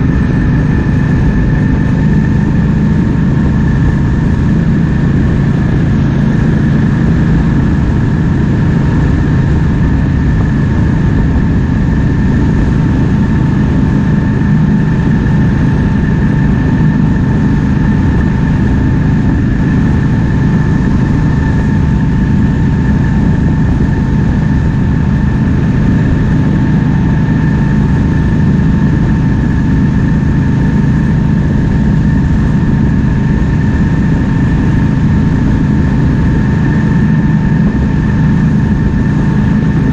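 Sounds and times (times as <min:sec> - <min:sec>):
motorcycle engine cruising: 0:00.0 - 0:39.9
steady high whine: 0:00.0 - 0:39.9
wind noise: 0:00.0 - 0:39.9.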